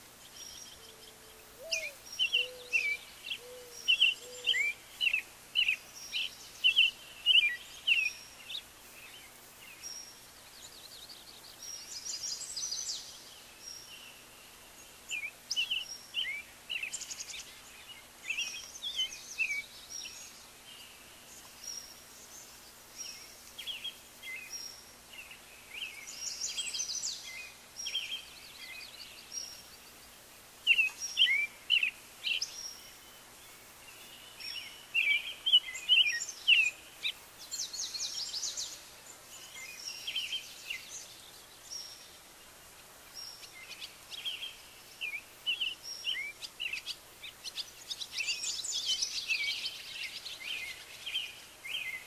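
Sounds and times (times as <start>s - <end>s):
small birds chirping and singing: 0.0s - 52.0s.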